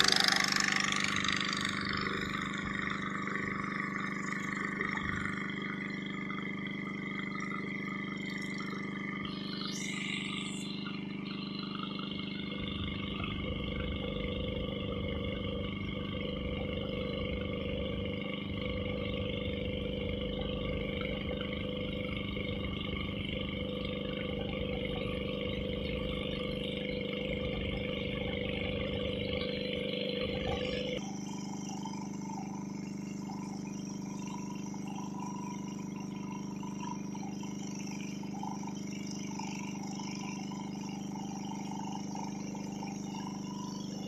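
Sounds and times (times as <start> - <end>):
boat engine drone: 0.0 - 44.0.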